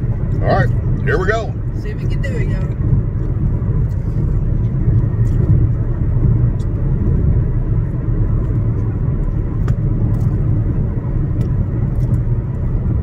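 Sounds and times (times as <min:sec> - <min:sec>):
car cabin low rumble: 0:00.0 - 0:13.0.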